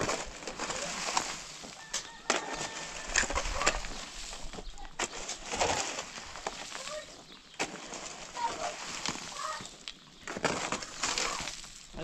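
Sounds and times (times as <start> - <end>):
shovel driven into gravel: 0.0 - 12.0.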